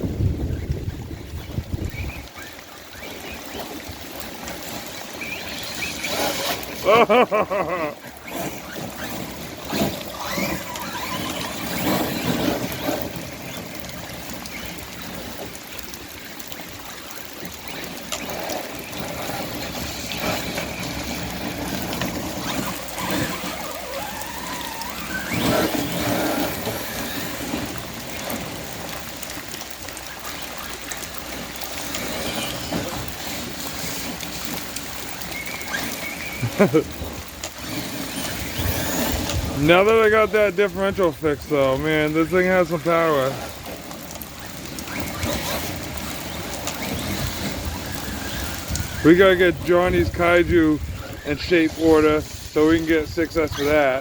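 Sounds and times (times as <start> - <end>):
tyres washing through water: 0.0 - 54.0.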